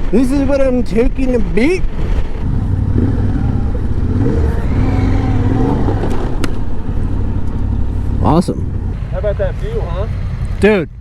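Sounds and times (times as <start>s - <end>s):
low riding rumble: 0.0s - 11.0s
motorcycle engine running: 1.9s - 11.0s.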